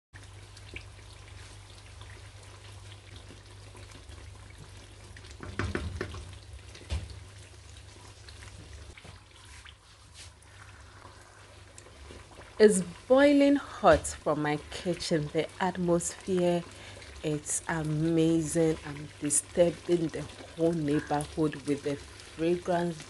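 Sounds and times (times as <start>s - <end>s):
sauce bubbling and popping in a pan: 0.2s - 23.0s.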